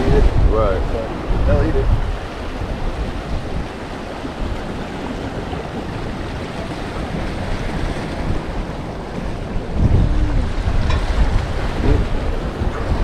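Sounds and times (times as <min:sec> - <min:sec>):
ocean surf: 0:00.0 - 0:13.0
strong wind on microphone: 0:00.0 - 0:13.0.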